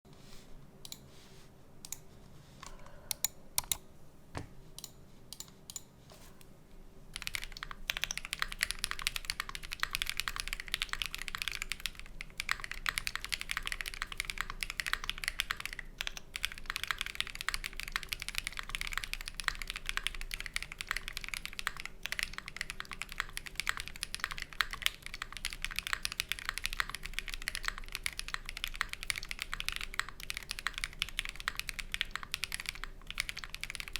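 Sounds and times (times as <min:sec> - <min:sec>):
mechanical keyboard typing: 0:02.6 - 0:03.8, 0:07.2 - 0:33.9.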